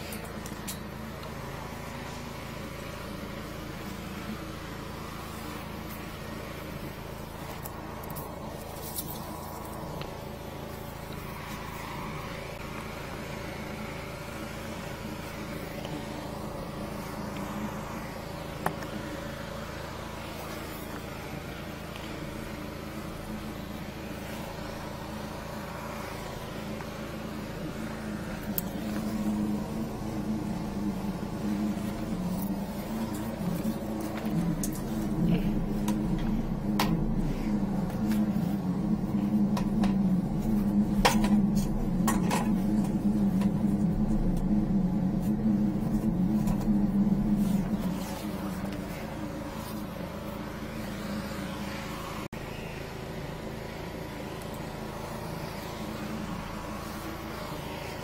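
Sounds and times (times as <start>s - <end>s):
sewer jetter engine and pump running: 0.0s - 58.0s.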